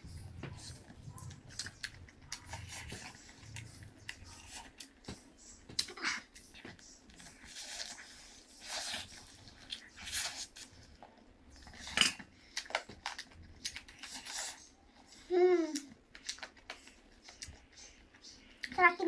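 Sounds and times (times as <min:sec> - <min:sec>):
chewing and mouth noises: 0:00.2 - 0:19.0.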